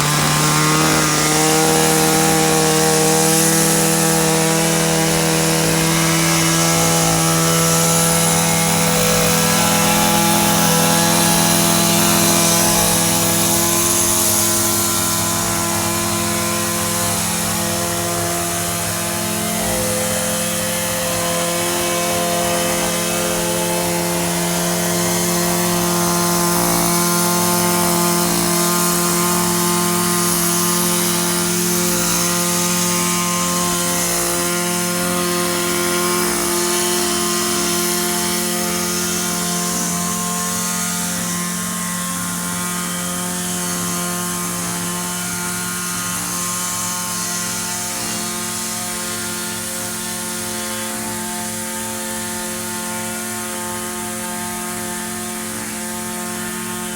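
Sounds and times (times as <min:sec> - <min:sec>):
string trimmer engine running: 0:00.0 - 0:56.9.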